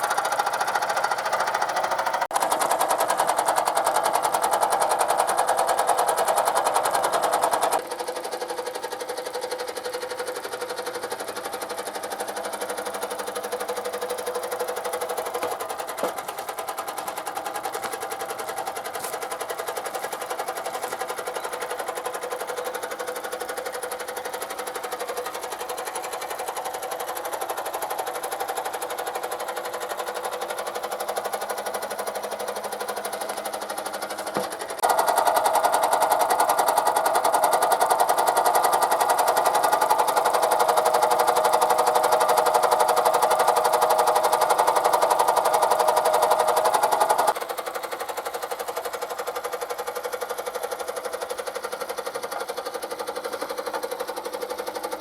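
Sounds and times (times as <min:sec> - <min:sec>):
toy steam engine chattering: 0:00.0 - 0:55.0.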